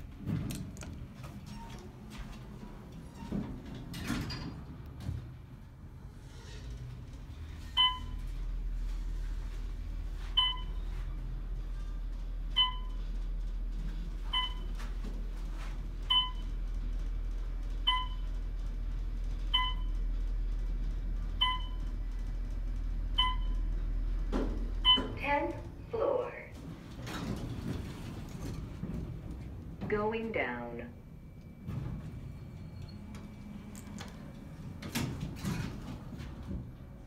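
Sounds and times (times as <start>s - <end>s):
elevator car humming: 0.0s - 37.0s.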